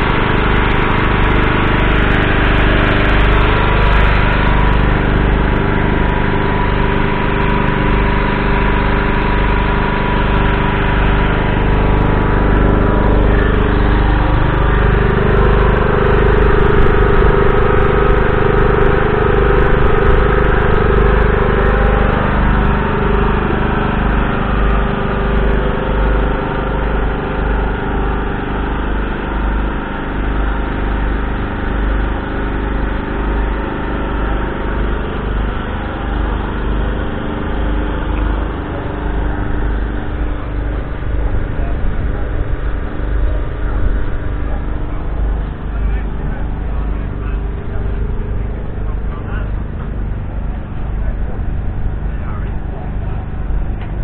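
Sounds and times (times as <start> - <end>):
higher engine note: 0.0 - 54.0
large diesel engine idling: 0.0 - 54.0.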